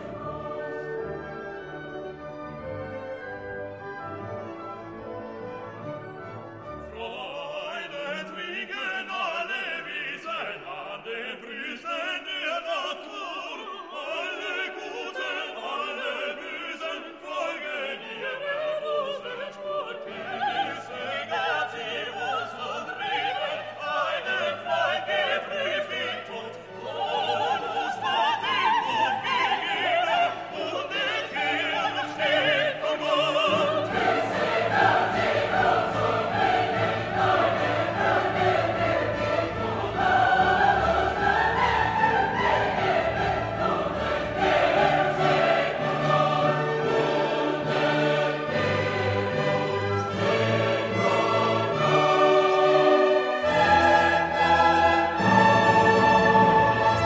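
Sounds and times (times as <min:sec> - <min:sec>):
operatic singing: 0:00.0 - 0:02.3, 0:06.8 - 0:57.0
orchestral classical music: 0:00.0 - 0:57.0.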